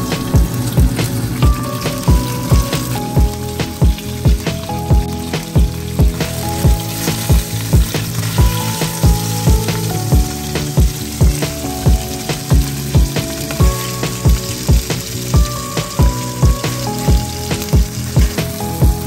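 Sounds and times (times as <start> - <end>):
background music with drum beat: 0.0 - 19.0
fish sizzling in oil: 0.0 - 19.0.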